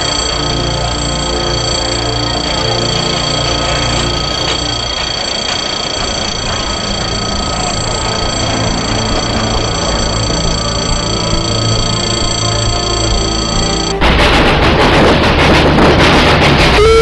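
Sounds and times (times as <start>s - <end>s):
high-pitched whining tones: 0.0s - 14.9s, 16.6s - 17.0s
train coaches rumbling on track: 0.0s - 17.0s.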